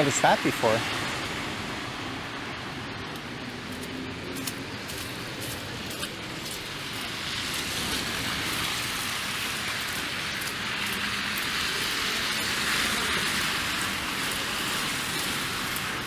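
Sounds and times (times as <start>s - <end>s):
wet hiss of slushy street: 0.0s - 16.0s.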